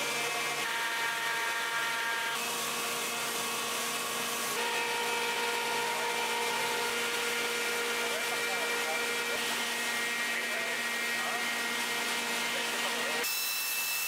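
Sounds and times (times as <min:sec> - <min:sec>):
workshop machinery hum and whine: 0:00.0 - 0:14.0.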